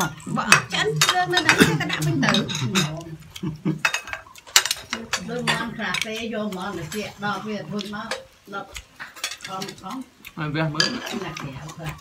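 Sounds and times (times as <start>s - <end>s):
tongs clinking against a plate: 0.0s - 12.0s.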